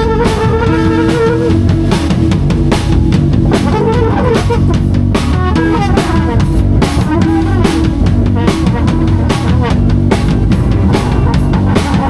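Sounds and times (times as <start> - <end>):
drum kit steady beat: 0.0 - 12.0
guitar melody: 0.0 - 12.0.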